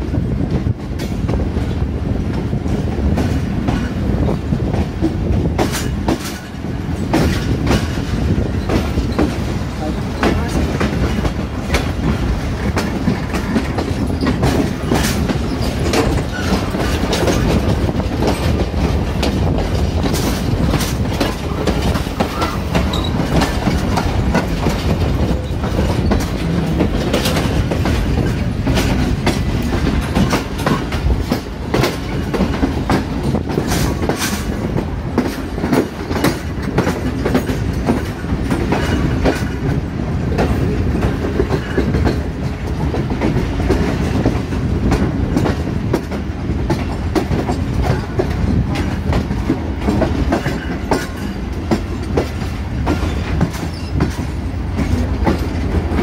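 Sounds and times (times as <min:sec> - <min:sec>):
train wheels rumbling on rails: 0:00.0 - 0:56.0
wheels clacking over rail joints: 0:00.4 - 0:56.0.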